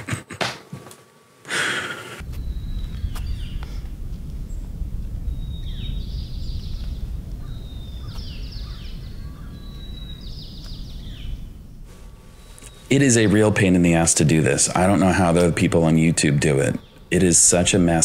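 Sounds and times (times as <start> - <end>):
low outdoor rumble: 2.2 - 18.0
small birds chirping: 2.2 - 18.0.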